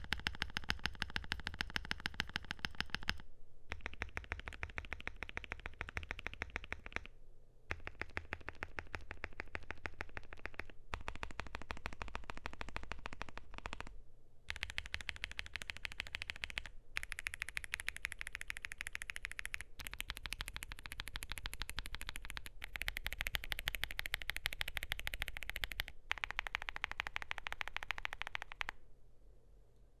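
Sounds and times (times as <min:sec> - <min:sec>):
mechanical keyboard typing: 0:00.0 - 0:07.1, 0:07.7 - 0:13.9, 0:14.5 - 0:28.8.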